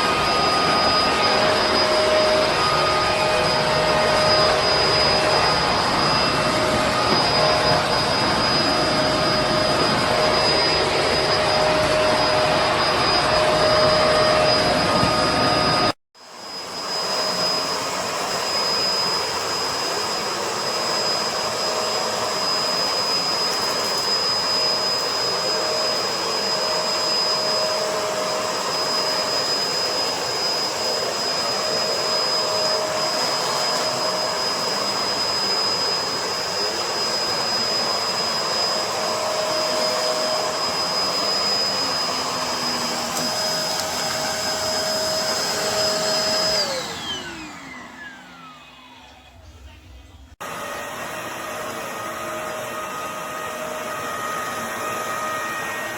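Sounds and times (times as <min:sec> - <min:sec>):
upright vacuum running on carpet: 0:00.0 - 0:55.9.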